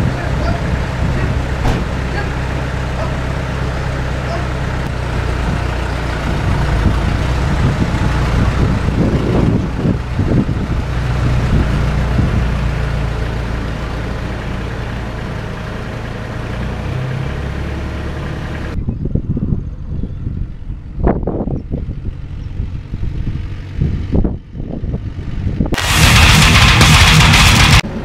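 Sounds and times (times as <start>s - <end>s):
diesel truck engine driving away: 0.0s - 18.8s, 21.8s - 28.0s.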